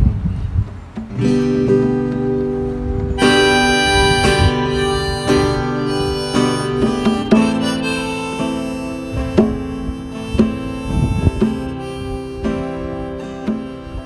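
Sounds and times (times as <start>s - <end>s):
acoustic guitar strumming: 0.7s - 14.0s
harmonica melody: 1.2s - 14.0s.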